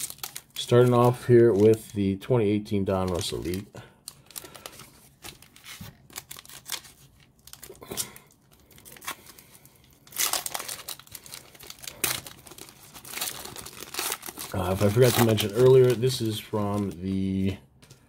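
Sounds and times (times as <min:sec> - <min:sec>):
foil wrapper tearing and crinkling: 0:00.0 - 0:02.0, 0:02.9 - 0:17.5.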